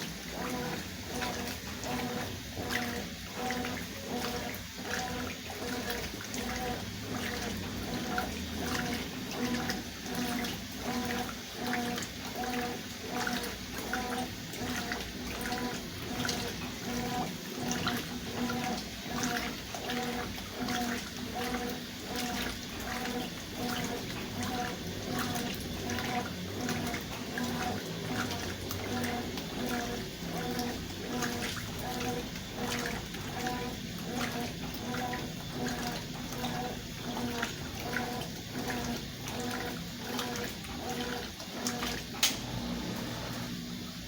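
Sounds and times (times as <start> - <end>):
washing machine motor hum: 0.0 - 44.0
water sloshing in tub: 0.0 - 44.0.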